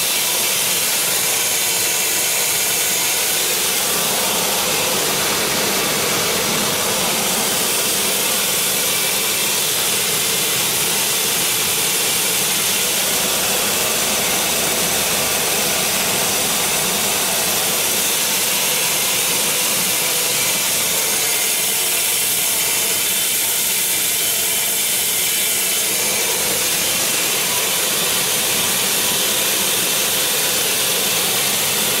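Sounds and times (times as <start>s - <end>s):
peeling machine hissing: 0.0s - 32.0s.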